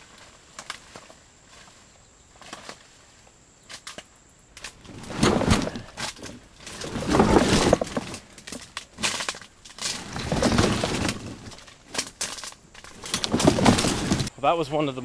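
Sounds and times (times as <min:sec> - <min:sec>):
plant stalks cracking and crunching: 0:00.0 - 0:01.8, 0:02.4 - 0:02.9, 0:03.6 - 0:14.3
leaves rustling: 0:00.0 - 0:14.9.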